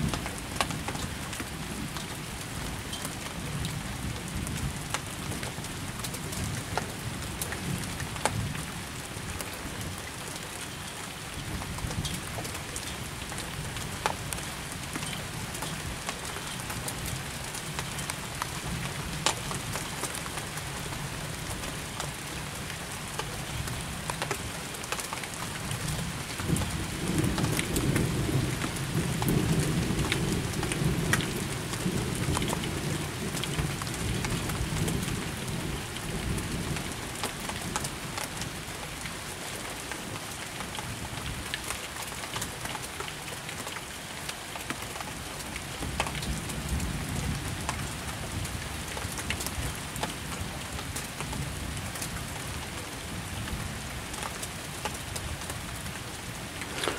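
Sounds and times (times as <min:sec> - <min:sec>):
raindrops ticking: 0:00.0 - 0:47.0, 0:53.4 - 0:56.9
steady rain: 0:00.0 - 0:56.9.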